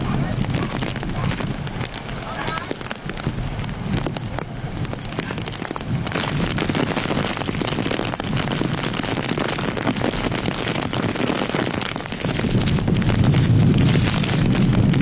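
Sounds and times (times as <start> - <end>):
rain falling: 0.0 - 15.0
wind buffeting microphone: 0.0 - 15.0.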